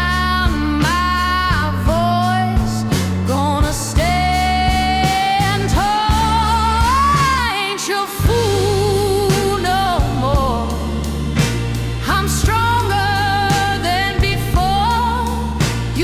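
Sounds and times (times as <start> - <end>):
bass line: 0.0 - 16.0
drums: 0.0 - 16.0
person singing with vibrato: 0.0 - 16.0.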